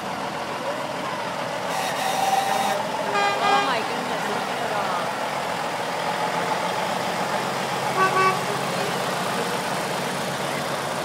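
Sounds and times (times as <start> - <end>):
truck engines rumbling: 0.0 - 11.0.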